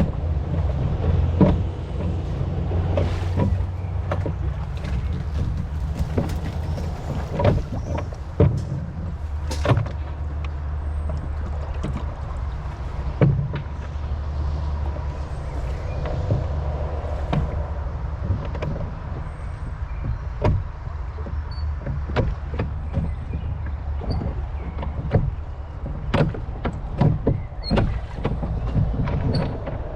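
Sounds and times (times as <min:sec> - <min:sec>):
oars knocking and splashing: 0:00.0 - 0:29.9.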